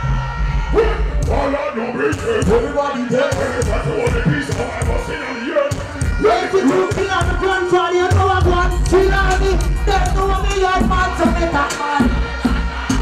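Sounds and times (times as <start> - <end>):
dancehall music over sound system: 0.0 - 13.0
heavy bass beat: 0.0 - 13.0.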